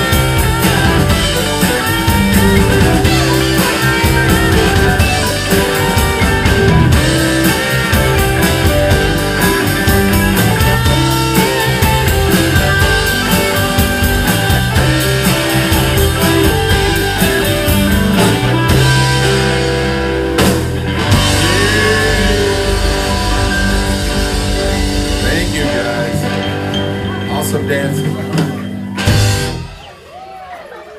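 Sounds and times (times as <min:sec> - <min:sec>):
drum kit: 0:00.0 - 0:30.4
electric guitars: 0:00.0 - 0:30.9.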